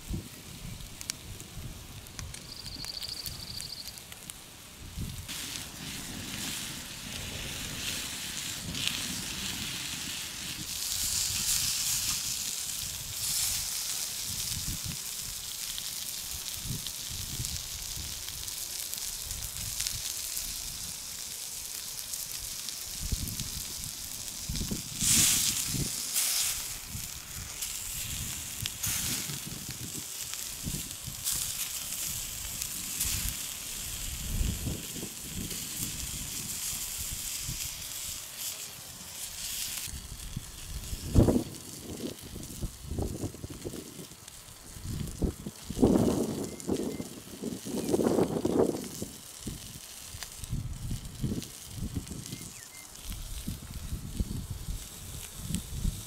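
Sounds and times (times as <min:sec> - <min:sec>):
wood fire crackling: 0:00.0 - 0:56.0
steaks sizzling on stone: 0:00.6 - 0:56.0.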